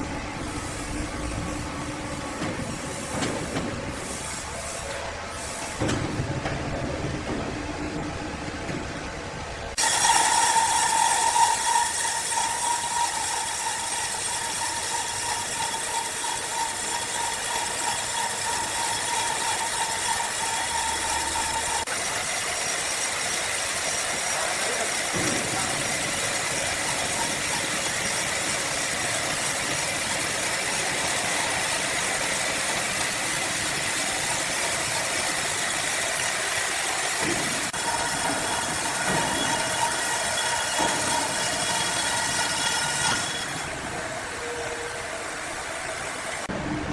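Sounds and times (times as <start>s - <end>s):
sawmill machinery running: 0.0s - 46.6s.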